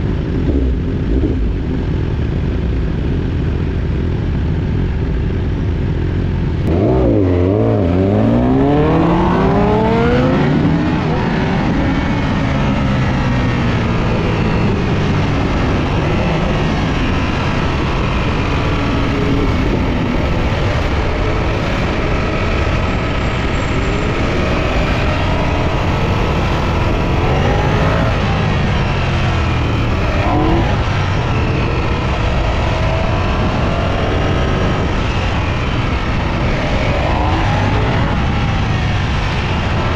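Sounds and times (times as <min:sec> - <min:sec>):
motorcycle engine accelerating: 0:00.0 - 0:39.9
rush of wind noise: 0:00.0 - 0:39.9.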